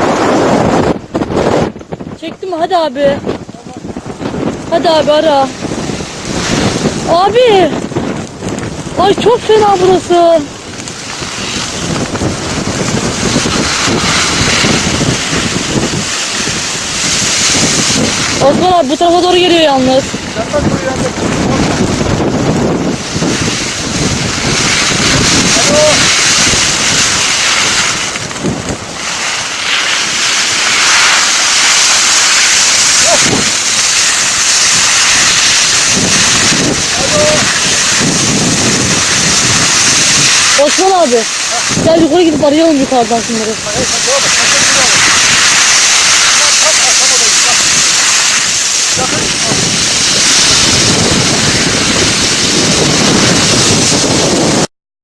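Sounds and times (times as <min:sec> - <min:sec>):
fire crackling: 0:00.0 - 0:54.7
roar of burning fire: 0:00.0 - 0:54.7.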